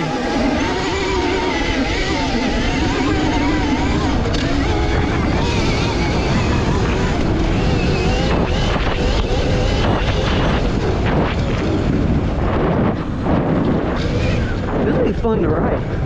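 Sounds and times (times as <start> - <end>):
electric motor whine: 0.0 - 16.0
wind blasting over microphone: 0.0 - 16.0.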